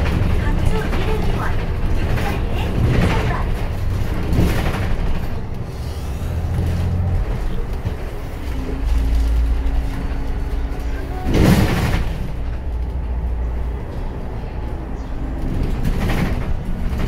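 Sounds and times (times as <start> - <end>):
bus drive rumble: 0.0 - 17.0.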